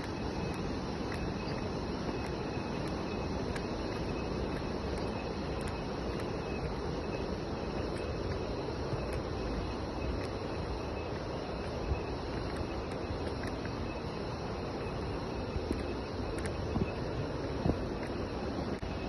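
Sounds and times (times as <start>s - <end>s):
constant rushing noise: 0.0s - 19.0s
insects trilling: 0.0s - 19.0s.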